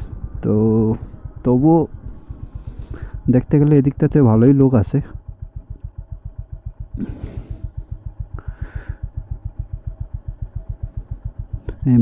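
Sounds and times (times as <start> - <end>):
motorcycle engine thumping: 1.0 - 12.0.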